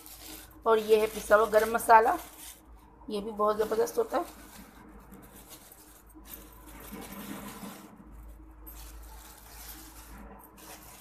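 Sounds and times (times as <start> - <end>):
plastic bag rustling: 0.0 - 11.0
powder trickling into container: 0.0 - 11.0.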